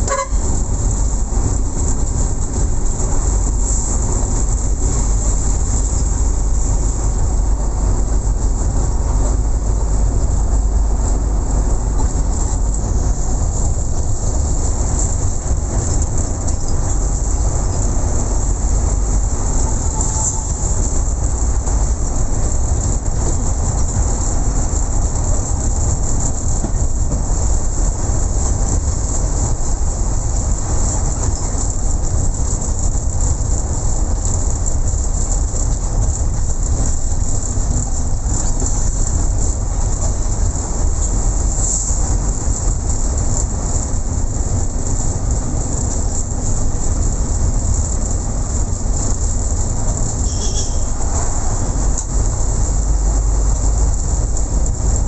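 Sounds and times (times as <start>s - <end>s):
moving vehicle rumble and hiss: 0.0s - 55.0s.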